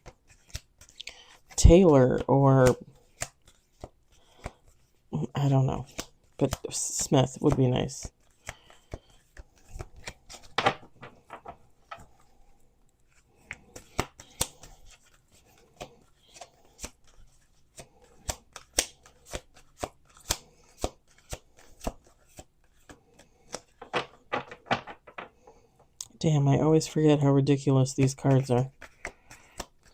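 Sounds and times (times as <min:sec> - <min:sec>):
cards being shuffled: 0:00.0 - 0:26.1, 0:27.8 - 0:29.9.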